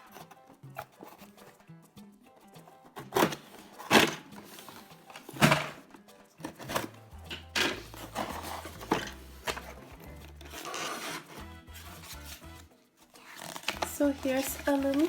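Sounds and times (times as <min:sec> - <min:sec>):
quiet background music: 0:00.0 - 0:15.0
cardboard rustling: 0:02.9 - 0:15.0.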